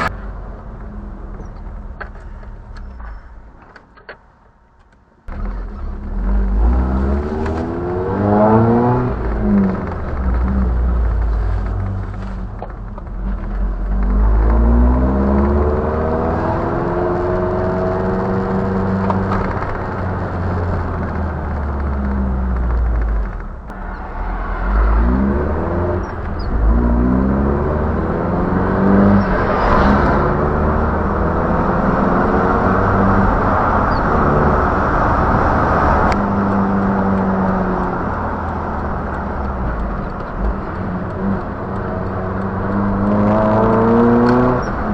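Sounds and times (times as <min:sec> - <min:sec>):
road noise rumble: 0:00.0 - 0:44.9
truck engine accelerating: 0:05.3 - 0:44.9.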